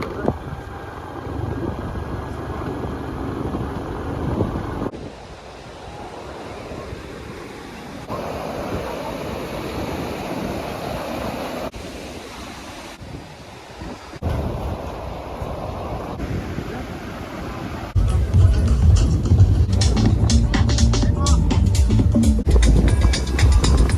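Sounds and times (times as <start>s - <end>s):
wind buffeting microphone: 0.0s - 20.8s, 21.8s - 23.9s
outdoor rushing noise: 0.0s - 21.3s.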